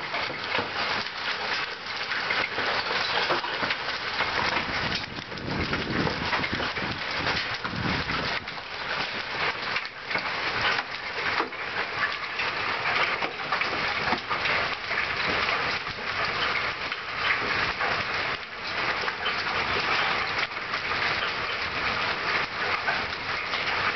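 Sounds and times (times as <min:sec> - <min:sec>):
hail clattering on pavement: 0:00.0 - 0:23.9
hiss of falling rain: 0:00.0 - 0:23.9.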